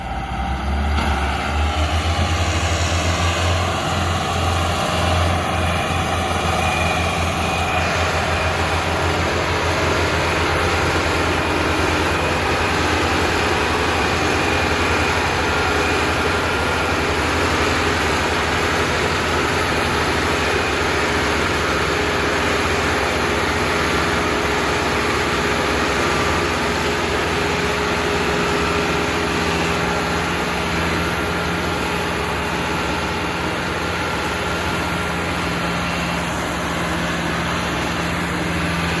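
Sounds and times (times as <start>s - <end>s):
tractor engine roaring: 0.0s - 39.0s.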